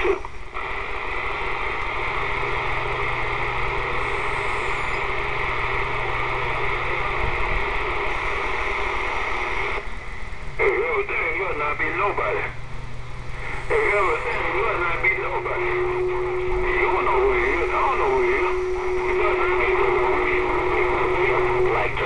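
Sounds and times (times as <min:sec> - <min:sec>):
low hum: 0:00.0 - 0:22.0
radio static hiss: 0:00.0 - 0:22.0.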